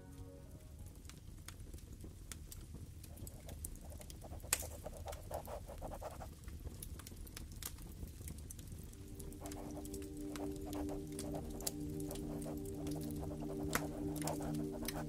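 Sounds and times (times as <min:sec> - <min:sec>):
wood fire crackling: 0:00.8 - 0:15.0
low fire rumble: 0:00.9 - 0:15.0.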